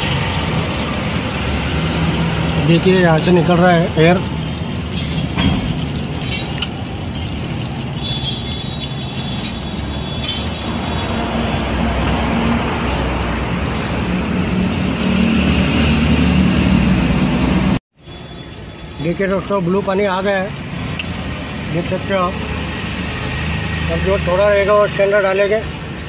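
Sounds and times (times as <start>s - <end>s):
coolant pouring and splashing: 0.0s - 26.0s.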